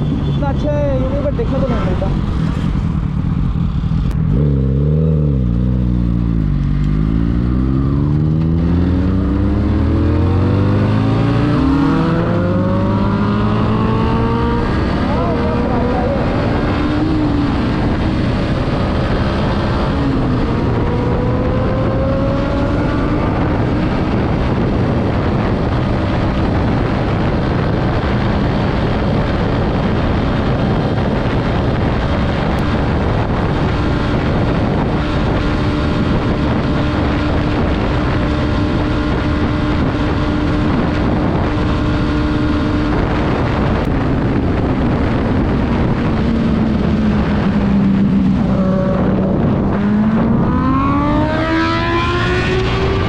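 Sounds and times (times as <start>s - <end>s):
motorcycle engine accelerating: 0.0s - 53.0s
wind rush on helmet: 0.0s - 53.0s.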